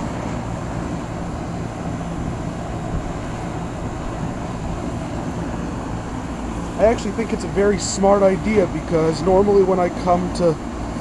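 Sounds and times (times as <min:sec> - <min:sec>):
compressor hum: 0:00.0 - 0:11.0
condenser fan air noise: 0:00.0 - 0:11.0.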